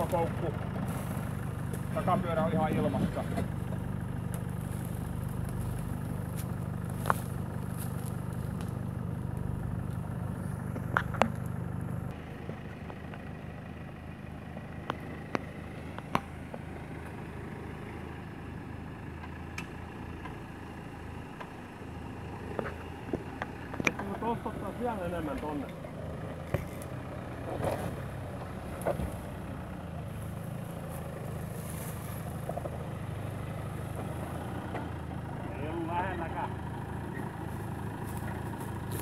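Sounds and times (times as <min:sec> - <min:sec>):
off-road engines at low revs: 0:00.0 - 0:39.0.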